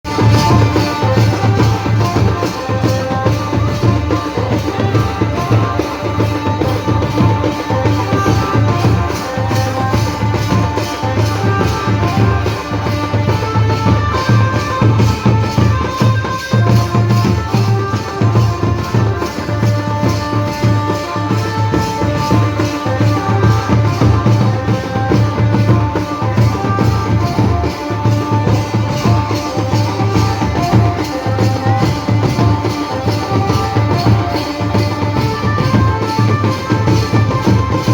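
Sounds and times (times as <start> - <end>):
band playing dance tune: 0.0 - 37.9
drums beating steadily: 0.0 - 37.9.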